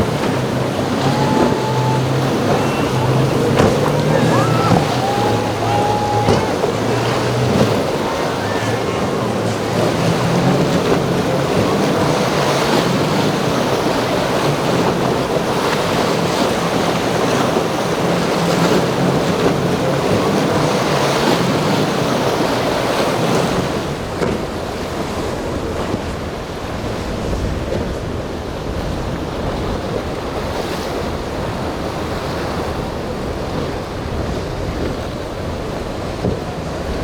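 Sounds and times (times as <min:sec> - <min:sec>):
boat engine droning: 0:00.0 - 0:37.0
waves crashing: 0:00.0 - 0:37.0
wind buffeting microphone: 0:00.0 - 0:37.0.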